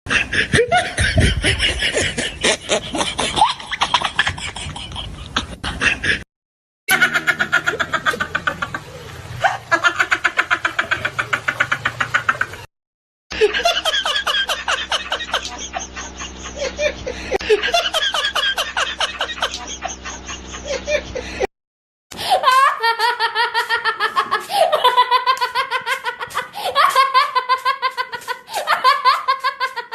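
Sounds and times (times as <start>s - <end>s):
high-pitched laughter: 0.1s - 6.2s, 6.9s - 12.7s, 13.3s - 21.4s, 22.2s - 29.9s.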